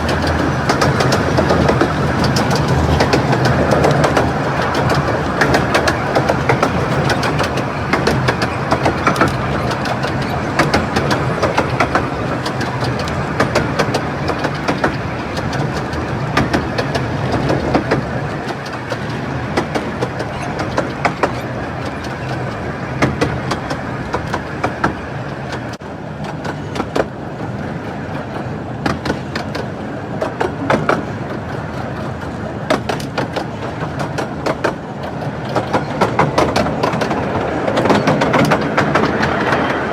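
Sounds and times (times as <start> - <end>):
train wheels rumbling on rail: 0.0 - 39.9
wheels clicking over track: 0.0 - 39.9.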